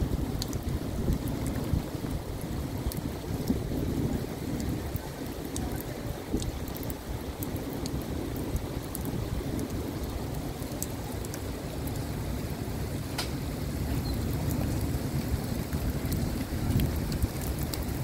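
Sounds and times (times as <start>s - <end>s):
heavy rain falling: 0.0s - 18.0s
sharp raindrop ticks: 0.0s - 18.0s.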